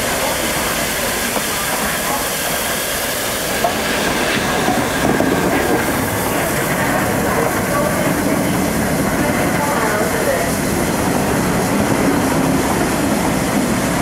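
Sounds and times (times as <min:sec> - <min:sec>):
steam train rolling past: 0:00.0 - 0:14.0.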